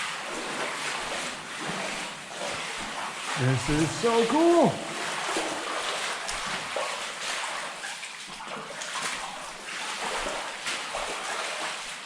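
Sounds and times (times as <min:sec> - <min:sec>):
feet wading through shallow water: 0:00.0 - 0:12.0.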